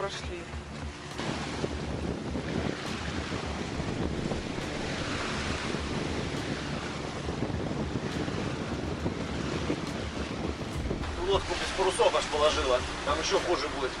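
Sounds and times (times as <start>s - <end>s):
sea water rushing past hull: 0.0s - 14.0s
wind rumbling on microphone: 0.0s - 14.0s.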